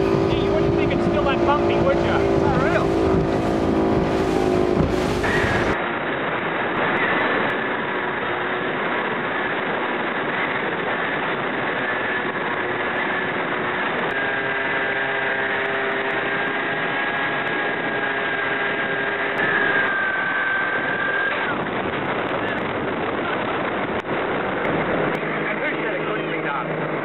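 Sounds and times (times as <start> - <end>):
electric motor and propeller whining: 0.0 - 27.0
rushing wind: 0.0 - 27.0.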